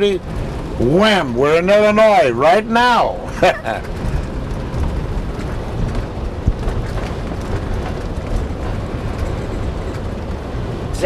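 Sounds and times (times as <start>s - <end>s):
bus interior rumble: 0.0s - 11.0s.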